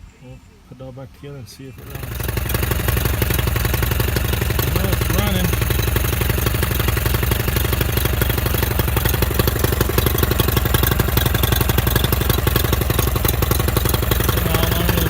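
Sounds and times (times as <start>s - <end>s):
outboard motor running: 1.8s - 15.0s.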